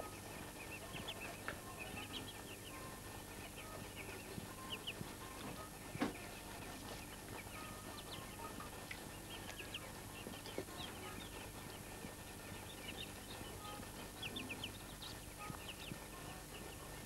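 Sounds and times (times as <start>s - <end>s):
ducklings peeping: 0.0s - 17.0s.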